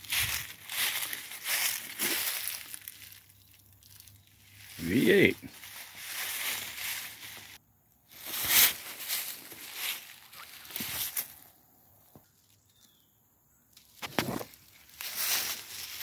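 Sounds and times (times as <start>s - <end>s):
footsteps crunching dry leaves: 0.0s - 11.6s, 13.8s - 16.0s.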